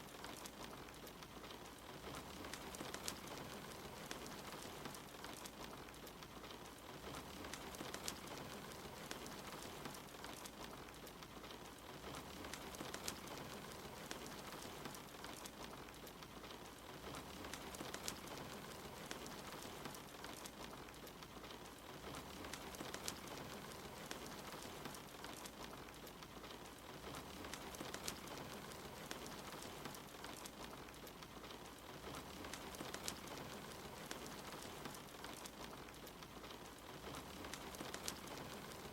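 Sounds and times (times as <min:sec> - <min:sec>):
fire crackling and popping: 0:00.0 - 0:38.9
soft steady rain: 0:00.0 - 0:38.9.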